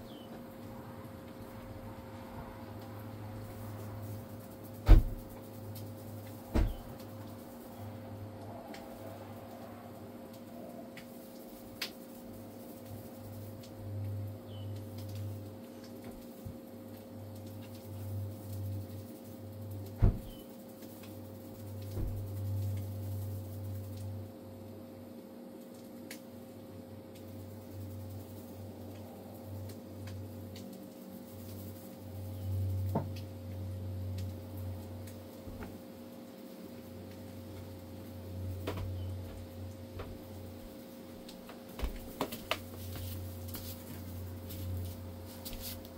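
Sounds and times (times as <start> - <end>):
low hum with deep rumble: 0.0 - 25.1, 26.4 - 45.9.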